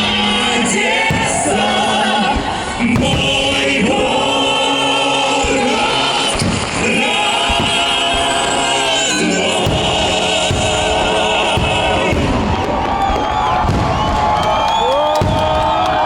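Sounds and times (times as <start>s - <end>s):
low thuds: 0.0s - 4.6s, 5.3s - 16.0s
choir singing held chords: 0.0s - 13.9s.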